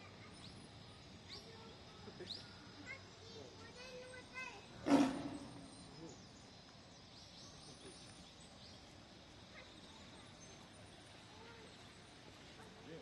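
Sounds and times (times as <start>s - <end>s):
faint high bird chirps: 0.0s - 13.0s.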